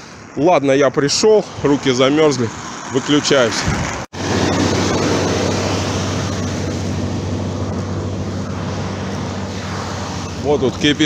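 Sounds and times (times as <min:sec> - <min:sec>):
passing cars: 0:00.0 - 0:11.0
vehicle engine humming: 0:00.0 - 0:11.0.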